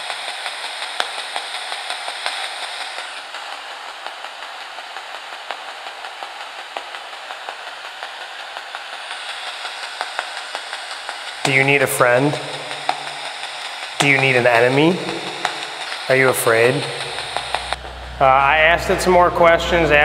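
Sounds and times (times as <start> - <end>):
static hiss: 0.0 - 20.0
faint crackling ticks: 0.1 - 17.8.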